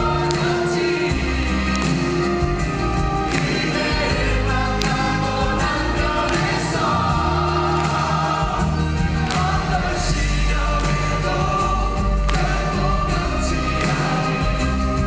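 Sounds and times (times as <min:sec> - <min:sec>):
cast singing with musical accompaniment: 0:00.0 - 0:15.0.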